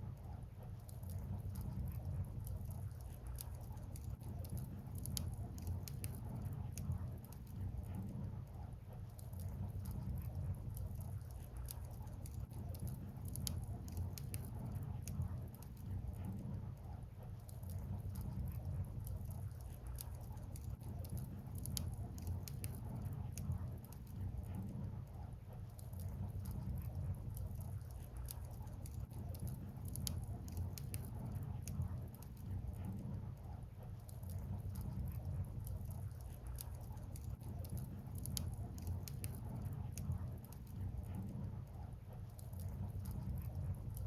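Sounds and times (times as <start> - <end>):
fire low rumble: 0.0 - 44.0
bonfire crackling and popping: 1.0 - 8.2, 9.2 - 16.4, 17.6 - 24.8, 25.7 - 41.5.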